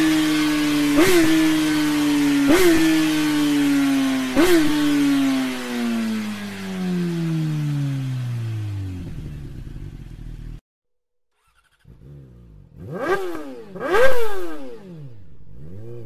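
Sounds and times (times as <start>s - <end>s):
motorcycle engine at high revs: 0.0s - 10.6s, 11.4s - 16.0s.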